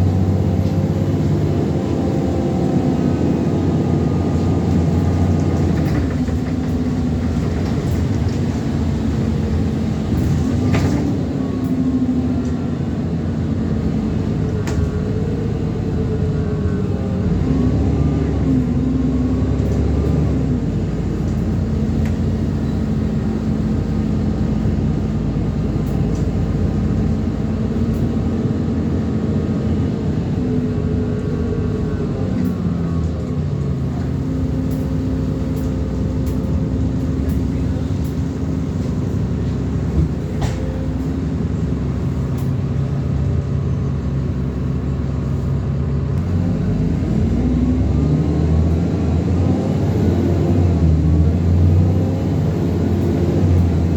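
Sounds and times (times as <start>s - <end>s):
bus engine while driving: 0.0s - 53.9s.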